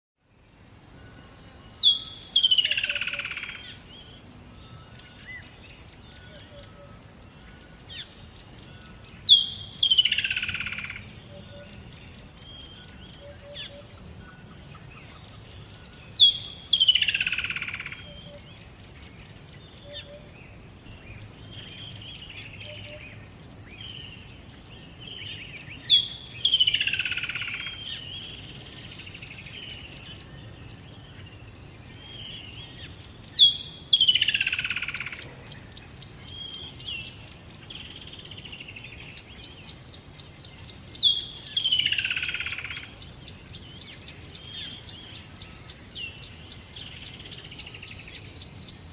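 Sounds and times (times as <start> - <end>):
quiet bird chirps: 0.2 - 48.9.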